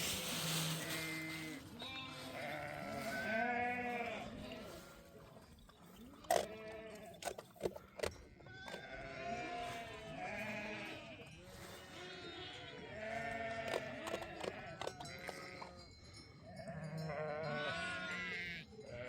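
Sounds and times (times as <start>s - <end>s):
sheep bleating: 0.3s - 5.3s, 6.1s - 7.2s, 7.8s - 15.8s, 16.6s - 19.0s.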